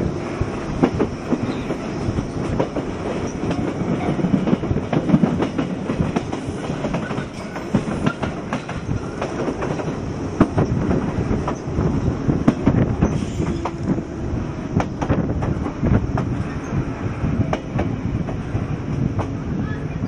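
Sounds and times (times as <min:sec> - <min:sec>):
train wheel rumble: 0:00.0 - 0:20.0
wind noise on microphone: 0:00.0 - 0:20.0.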